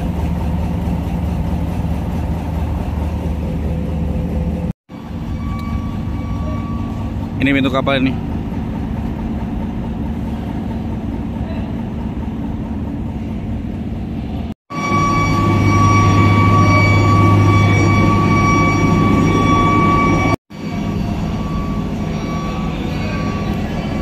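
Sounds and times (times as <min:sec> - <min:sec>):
diesel engine with high whine: 0:00.0 - 0:24.0
heavy vehicle engine drone: 0:00.0 - 0:24.0
truck engine running: 0:00.0 - 0:24.0.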